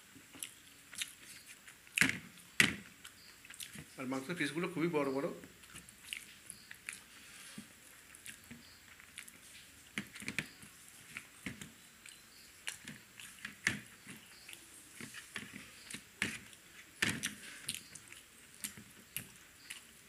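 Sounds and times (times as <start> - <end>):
person chewing with wet smacks: 0.2 - 4.0, 5.4 - 20.0.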